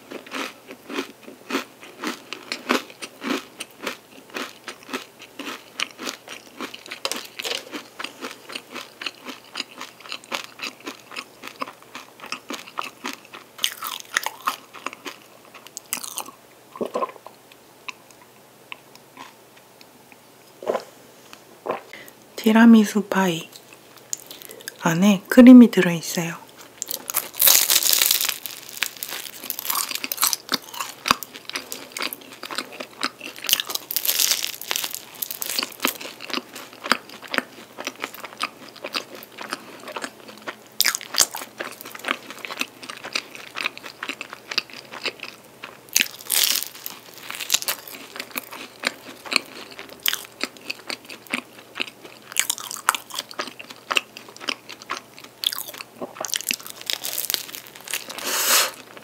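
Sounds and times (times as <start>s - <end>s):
crunching and chewing pastry: 0.0s - 17.1s, 23.6s - 24.8s, 26.5s - 59.0s.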